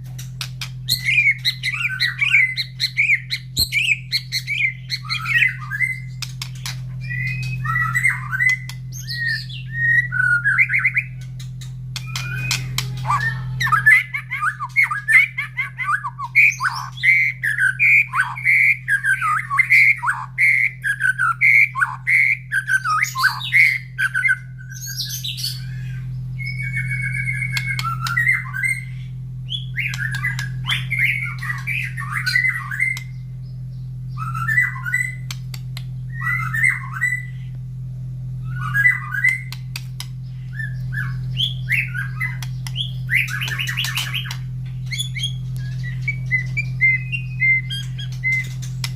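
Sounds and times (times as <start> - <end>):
steady low hum: 0.0 - 48.9
bird singing loudly: 0.9 - 11.2, 12.0 - 35.4, 36.0 - 37.5, 38.4 - 48.9.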